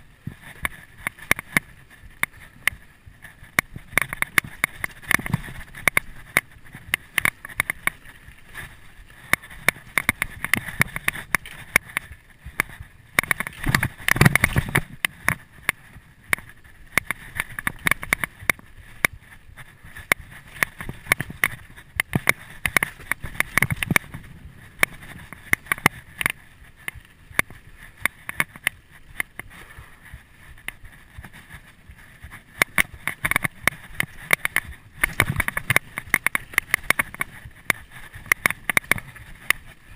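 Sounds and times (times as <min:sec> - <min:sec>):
mountain bike rattling and knocking: 0:00.0 - 0:39.9
tyre noise on dirt: 0:00.0 - 0:39.9.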